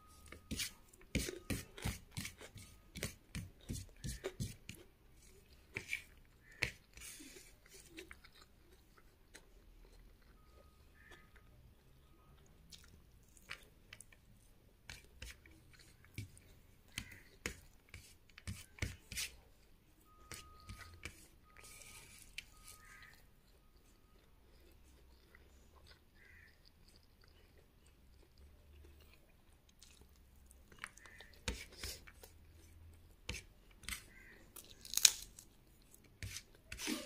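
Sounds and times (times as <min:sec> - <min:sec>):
soft chewing: 0:00.0 - 0:37.0
fingers squishing rice: 0:00.2 - 0:09.5, 0:14.8 - 0:19.4, 0:20.1 - 0:37.0.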